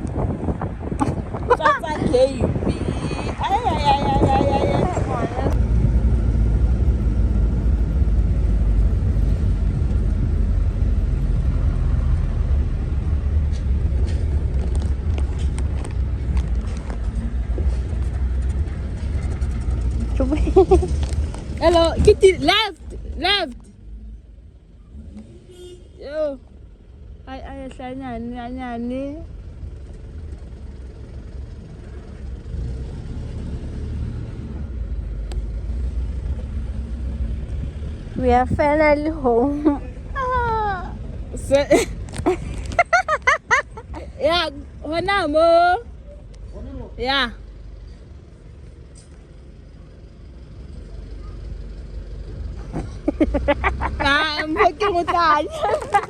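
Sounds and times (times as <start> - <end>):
road and engine rumble inside car: 0.0 - 56.0.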